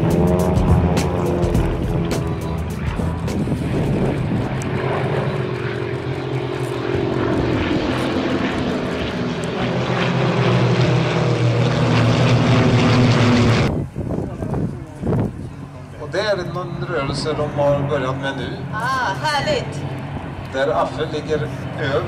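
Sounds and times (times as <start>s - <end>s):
propeller aircraft engine: 0.0s - 22.0s.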